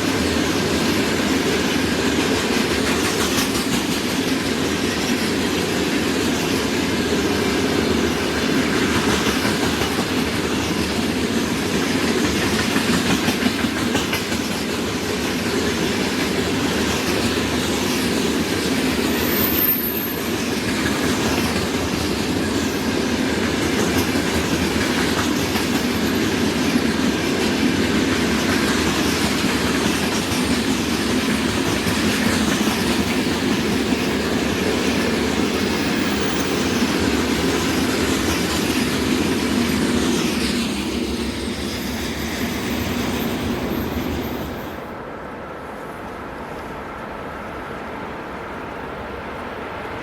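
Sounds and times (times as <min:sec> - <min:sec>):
freight train wagons rumbling: 0:00.0 - 0:50.0.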